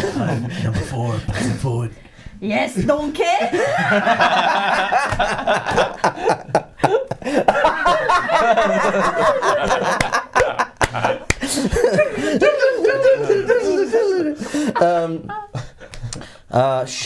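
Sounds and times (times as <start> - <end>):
group laughing loudly: 0.0 - 1.6, 3.4 - 16.0.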